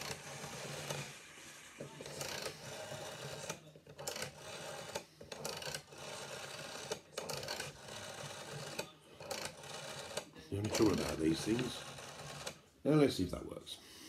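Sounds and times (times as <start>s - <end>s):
rotary telephone dial whirring: 0.0s - 12.7s.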